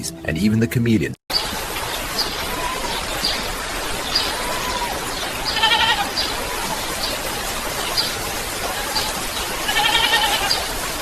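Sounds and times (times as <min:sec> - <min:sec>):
rain hissing: 0:01.3 - 0:11.0.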